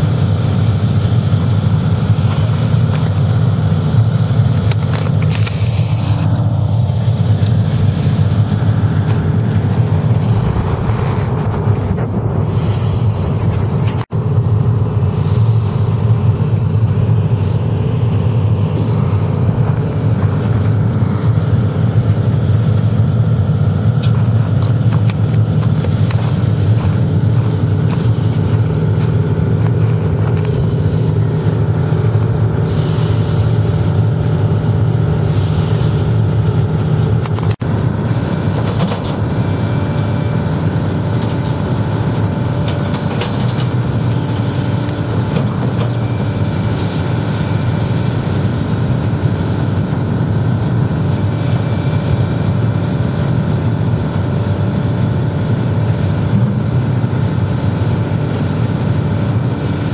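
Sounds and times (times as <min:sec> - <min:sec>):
excavator diesel engine droning: 0:00.0 - 0:59.9.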